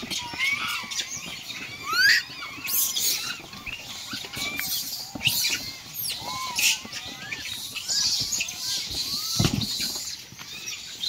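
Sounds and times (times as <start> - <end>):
monkeys chirping: 0.0 - 11.0.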